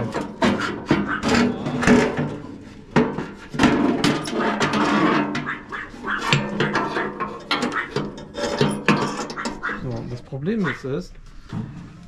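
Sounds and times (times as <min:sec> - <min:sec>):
sheet metal grill parts clattering: 0:00.0 - 0:10.1.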